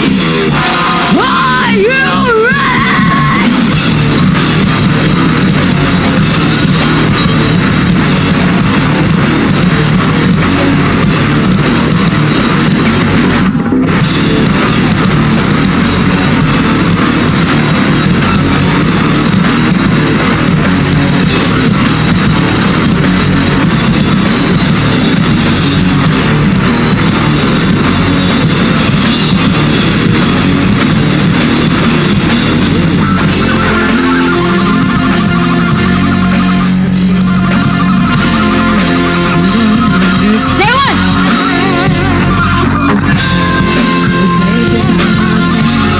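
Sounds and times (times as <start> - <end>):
bass: 0.0 - 45.9
drum kit with cymbals: 0.0 - 45.9
electric guitars: 0.0 - 45.9.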